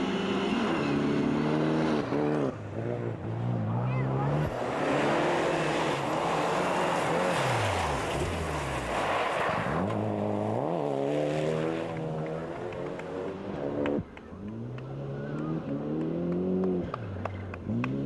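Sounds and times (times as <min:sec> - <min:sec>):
gravel and tyre noise: 0:00.0 - 0:18.0
rally car engines revving: 0:00.0 - 0:18.0.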